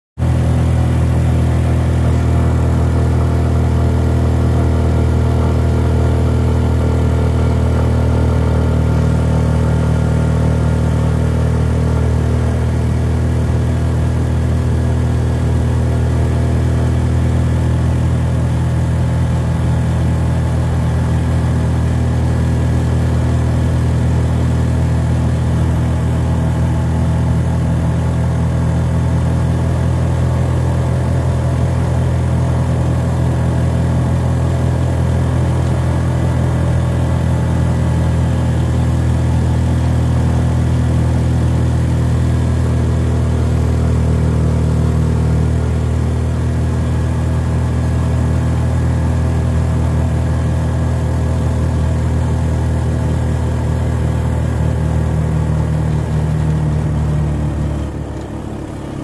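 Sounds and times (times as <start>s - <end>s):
car engine and road noise: 0.2s - 59.0s.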